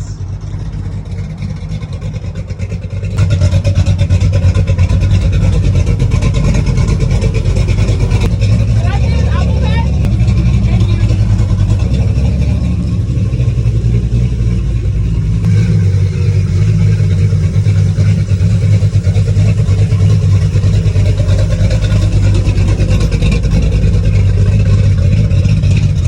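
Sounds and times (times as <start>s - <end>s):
race car engine running: 0.0s - 26.0s.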